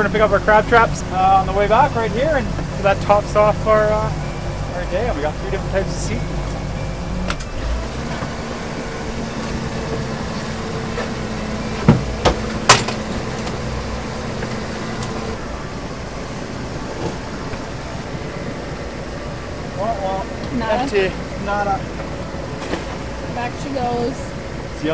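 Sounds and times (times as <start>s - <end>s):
motorboat engine humming: 0.0s - 24.9s.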